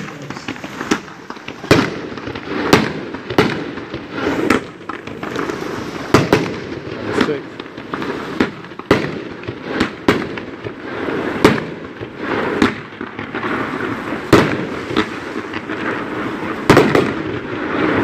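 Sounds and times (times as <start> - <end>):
fireworks bangs: 0.0 - 18.0
fireworks crackling and rumbling: 0.0 - 18.0.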